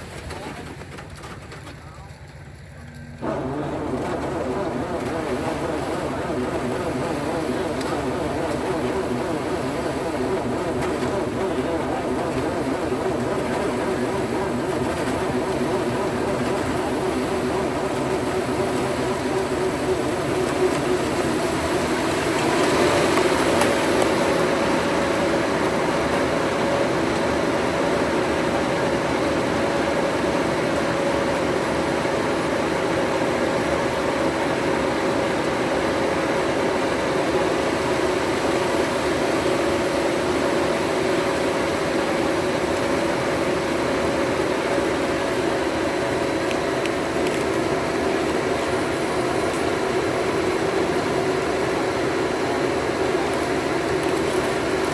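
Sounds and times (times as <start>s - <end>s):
engine humming steadily: 0.0s - 54.9s.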